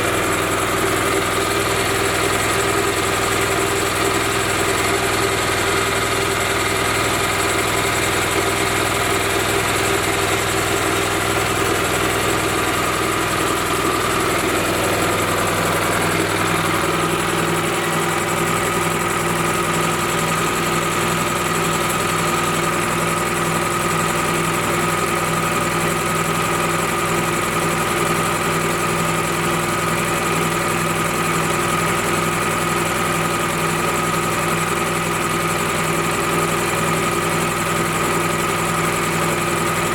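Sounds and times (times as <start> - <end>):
gasoline engine running steadily: 0.0 - 39.9.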